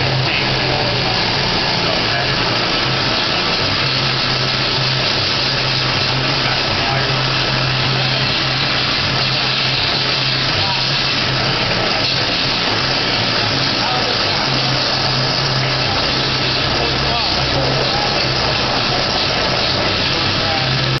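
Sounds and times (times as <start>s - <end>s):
high-pressure water jet hissing: 0.0s - 21.0s.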